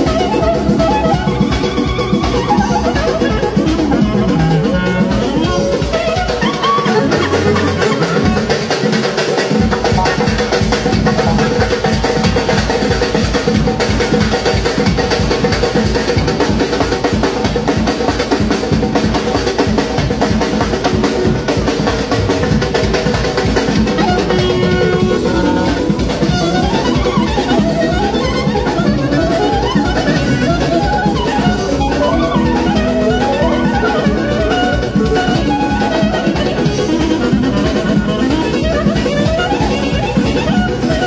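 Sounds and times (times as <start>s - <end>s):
clarinet runs: 0.0s - 41.0s
hand drums and drum kit beating: 0.0s - 41.0s.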